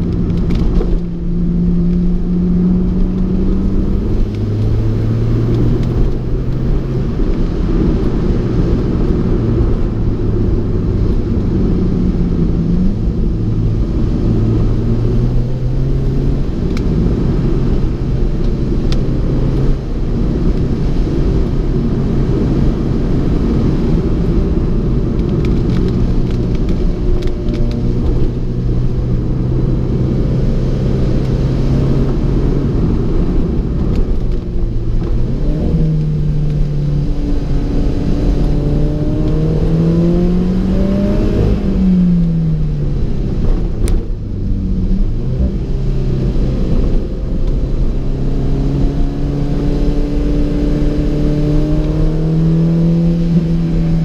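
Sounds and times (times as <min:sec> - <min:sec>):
car engine revving: 0:00.0 - 0:54.0
steady rushing noise: 0:00.0 - 0:54.0.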